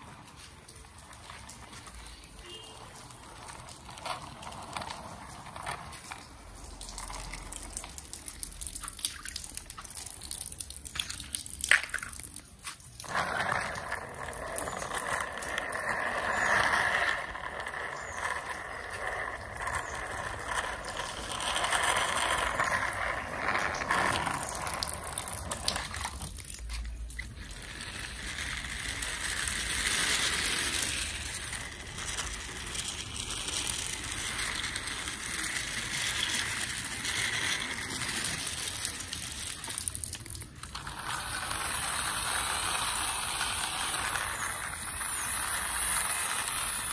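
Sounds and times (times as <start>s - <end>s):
toy wheels rolling on concrete: 0.0s - 46.9s.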